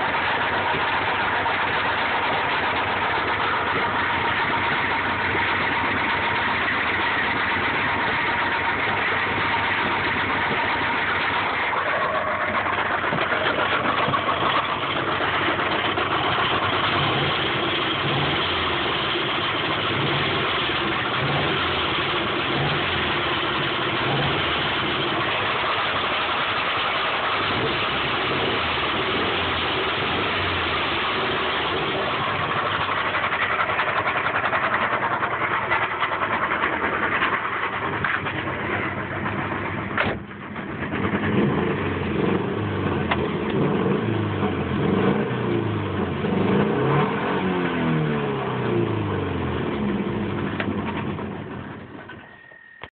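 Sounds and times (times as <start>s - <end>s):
car engine idling with knock: 0.0s - 52.9s.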